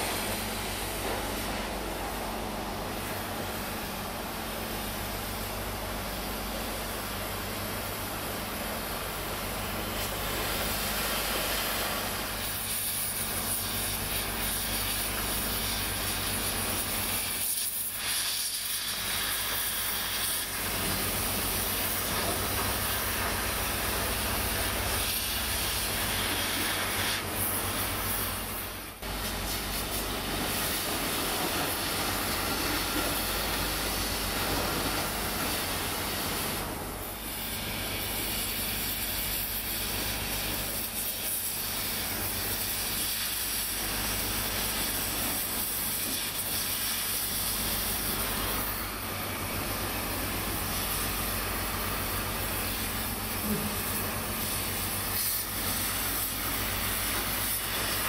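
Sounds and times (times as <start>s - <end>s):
cutting torch hissing: 8.8s - 58.0s.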